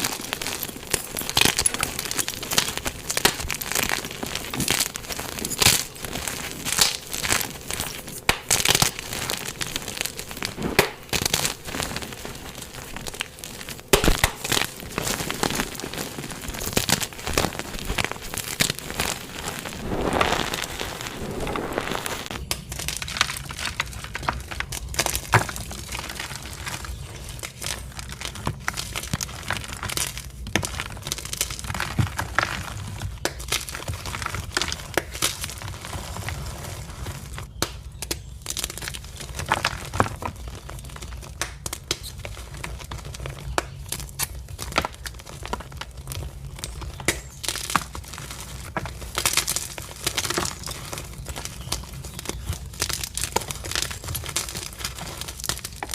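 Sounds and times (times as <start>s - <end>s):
chalk blocks crunching: 0.0s - 37.5s, 38.5s - 55.9s.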